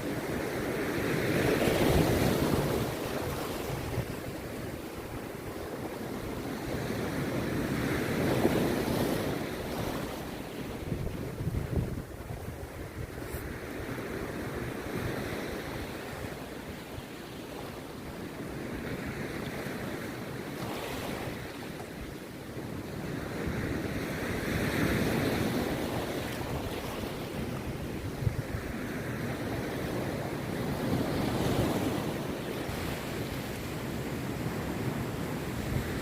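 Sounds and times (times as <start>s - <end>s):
sea surf breaking on beach: 0.0s - 36.0s.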